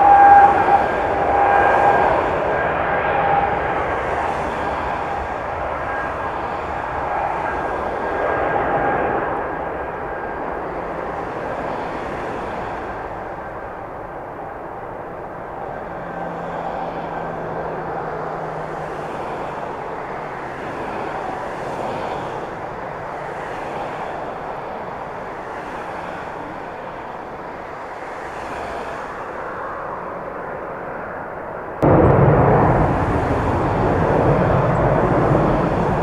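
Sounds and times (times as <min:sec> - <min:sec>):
jet engines rushing: 0:00.0 - 0:36.0.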